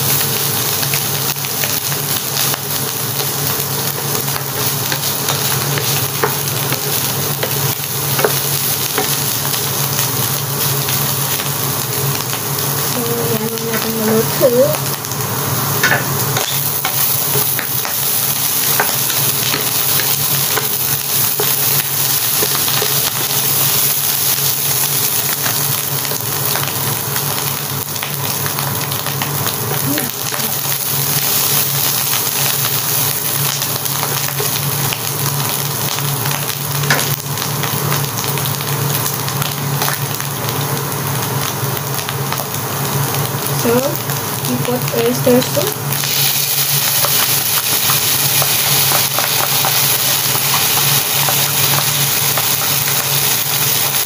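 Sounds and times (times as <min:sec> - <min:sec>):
food sizzling in frying pan: 0:00.0 - 0:54.0.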